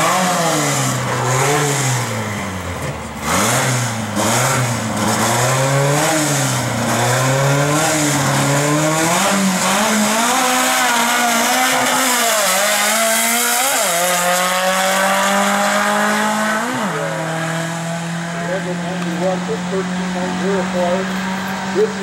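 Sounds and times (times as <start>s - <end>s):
drag car engine accelerating: 0.0s - 22.0s.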